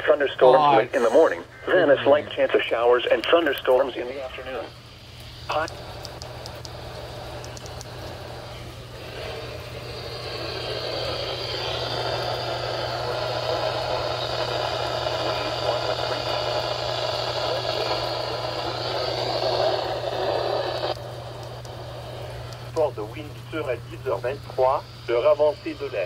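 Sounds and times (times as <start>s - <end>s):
low steady hum: 0.0s - 26.0s
radio static hiss: 0.0s - 26.0s.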